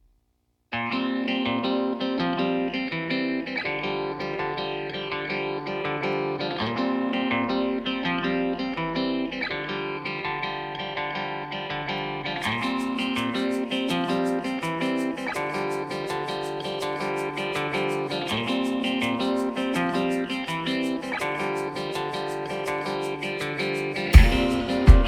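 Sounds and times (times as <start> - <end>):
plucked guitar music: 0.7 - 25.0.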